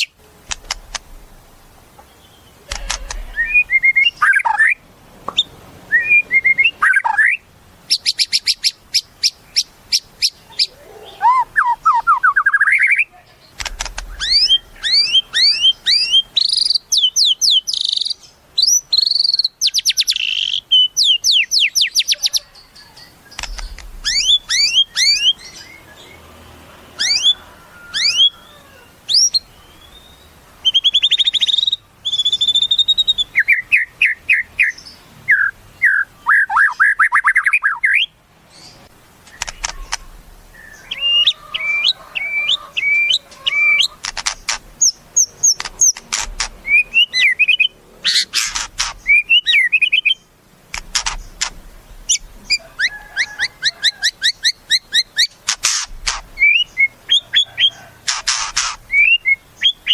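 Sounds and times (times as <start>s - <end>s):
bird singing: 0.0s - 26.3s, 27.0s - 46.0s, 46.6s - 59.9s.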